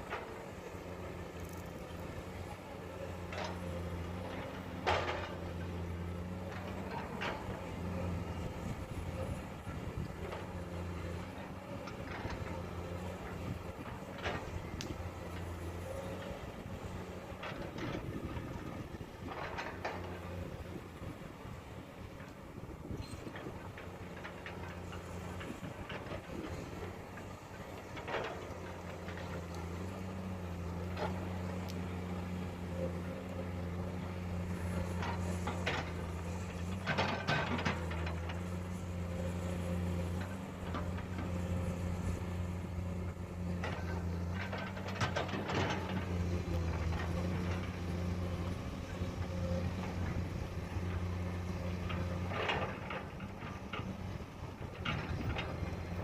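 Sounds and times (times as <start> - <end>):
excavator diesel engine drone: 0.0 - 56.0.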